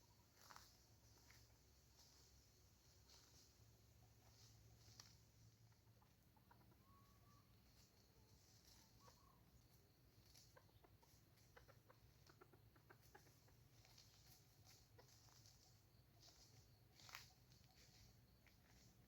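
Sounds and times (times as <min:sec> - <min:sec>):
junglefowl clucking: 0:00.0 - 0:19.0.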